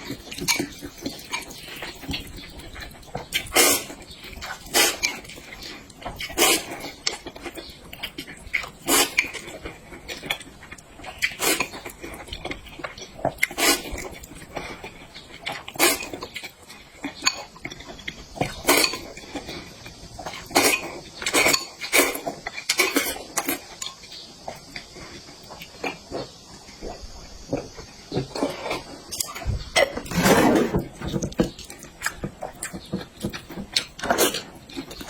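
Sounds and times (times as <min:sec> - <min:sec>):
eating and chewing: 0:00.0 - 0:35.0.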